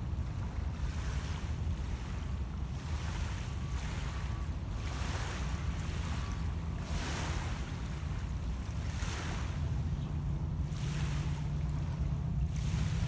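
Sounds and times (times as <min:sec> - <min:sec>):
waves lapping on pebbles: 0:00.0 - 0:13.0
wind rumble on microphone: 0:00.0 - 0:13.0.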